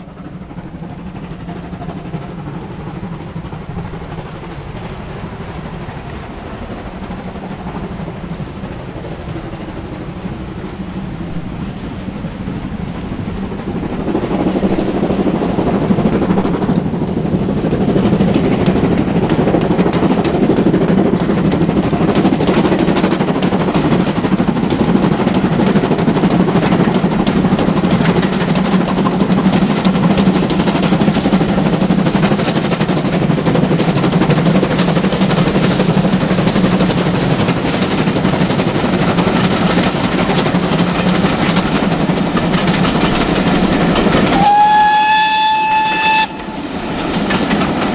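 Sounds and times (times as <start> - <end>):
steam train running past: 0.0 - 47.9
wheels clattering over rail joints: 0.0 - 47.9.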